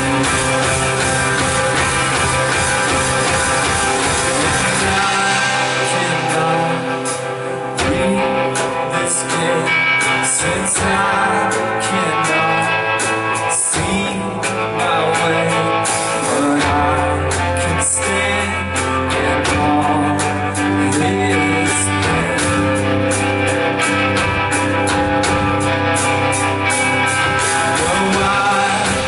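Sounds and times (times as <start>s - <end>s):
bass line: 0.0s - 29.0s
drum and cymbal hits: 0.0s - 29.0s
electric guitar: 0.0s - 29.0s.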